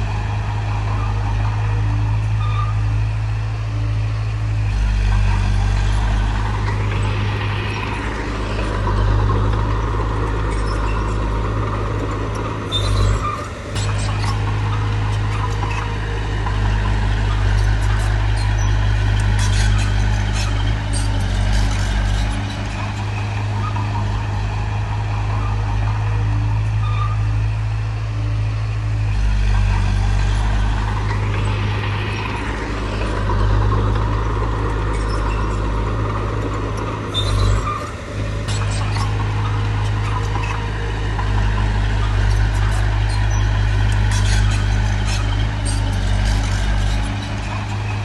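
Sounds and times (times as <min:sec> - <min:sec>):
diesel machinery engine: 0:00.0 - 0:48.0.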